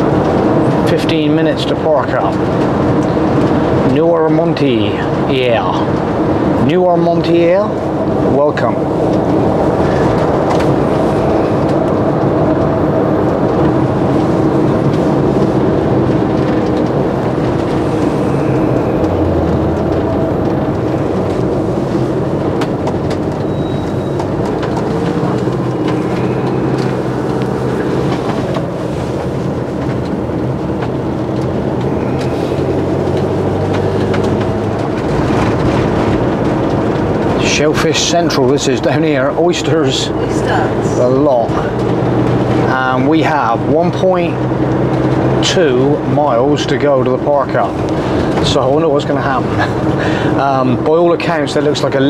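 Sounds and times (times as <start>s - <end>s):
motorhome engine: 0.0s - 52.0s
road rumble: 0.0s - 52.0s.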